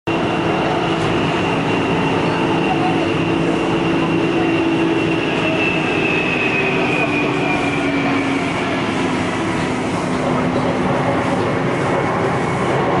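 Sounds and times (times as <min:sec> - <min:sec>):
train running noise: 0:00.1 - 0:13.0.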